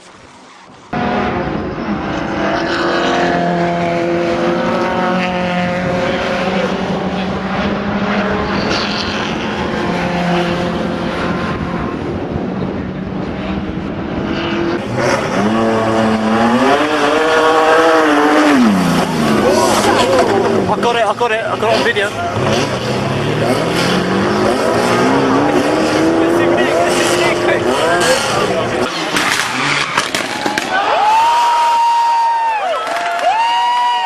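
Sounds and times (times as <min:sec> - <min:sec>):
car engine high revving: 0:00.0 - 0:30.4
second engine revving up: 0:00.4 - 0:30.7.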